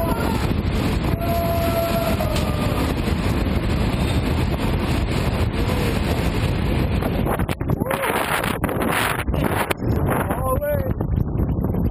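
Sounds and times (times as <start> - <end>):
train running at speed: 0.0 - 11.9
wind rushing over microphone: 0.0 - 11.9.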